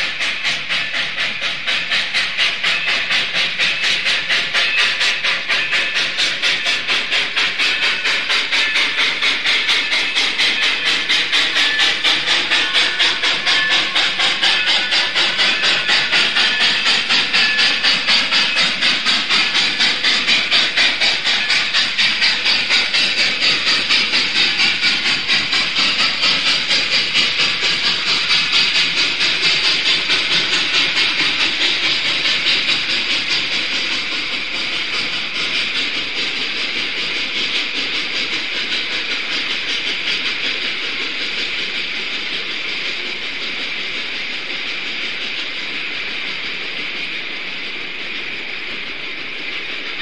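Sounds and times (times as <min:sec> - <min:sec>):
train rhythmic pulsing on rails: 0:00.0 - 0:50.0.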